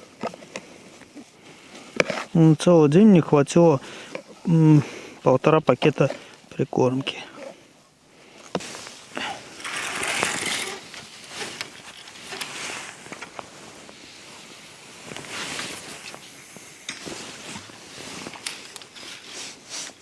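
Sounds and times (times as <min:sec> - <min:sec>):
rustling: 0:03.8 - 0:20.0.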